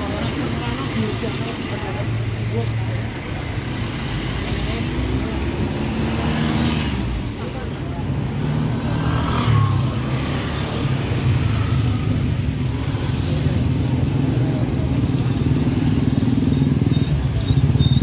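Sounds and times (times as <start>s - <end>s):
motorcycle and car engines rumbling: 0.0s - 18.0s.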